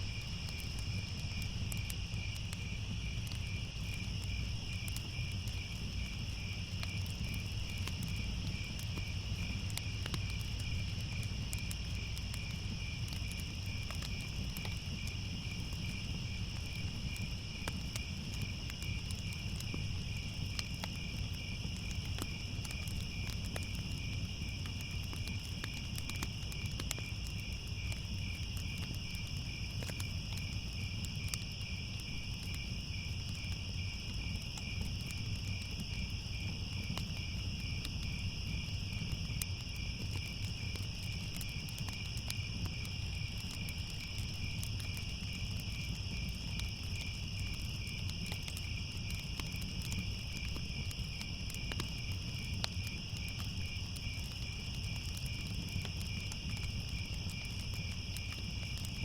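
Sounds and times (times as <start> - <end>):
crickets chirping: 0.0 - 59.0
faint crackles: 0.0 - 59.0.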